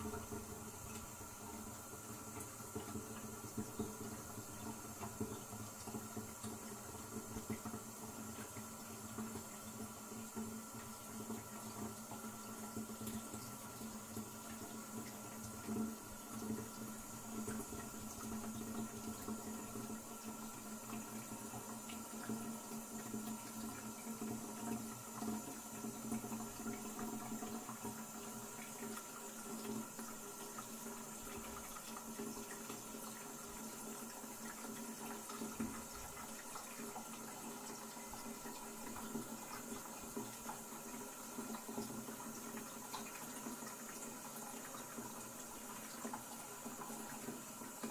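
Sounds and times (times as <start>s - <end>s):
toilet cistern refilling: 0.0s - 47.9s.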